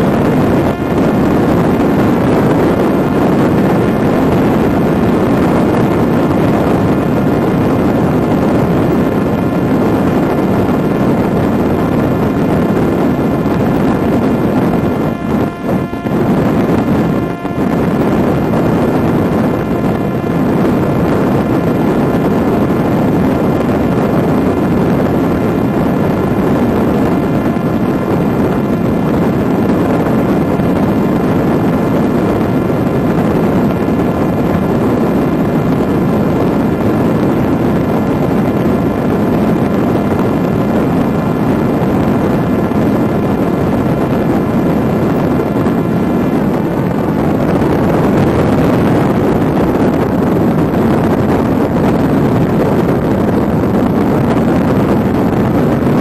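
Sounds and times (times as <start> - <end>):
electric motor whine: 0.0 - 56.0
rushing air noise: 0.0 - 56.0.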